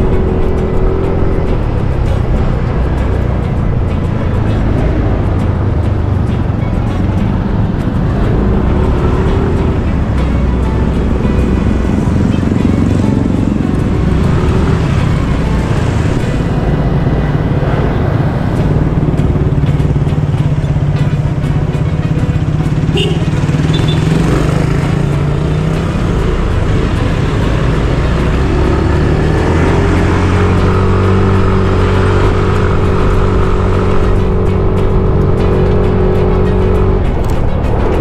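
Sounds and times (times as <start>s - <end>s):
road noise: 0.0s - 38.0s
vehicle engine running: 0.0s - 38.0s.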